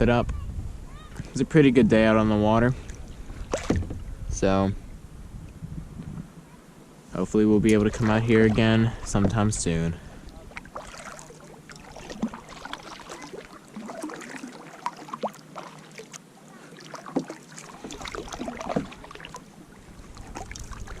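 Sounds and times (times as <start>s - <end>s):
water splashing around a kayak: 0.9s - 4.6s, 7.2s - 21.0s.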